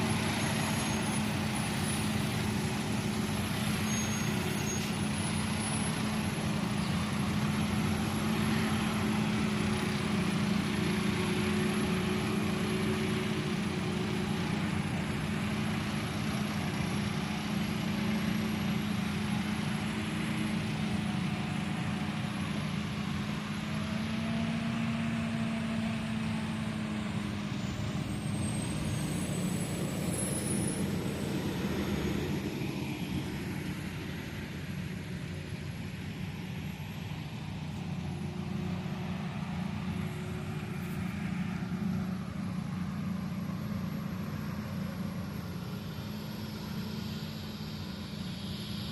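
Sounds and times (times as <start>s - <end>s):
diesel machinery engine drone: 0.0s - 48.9s.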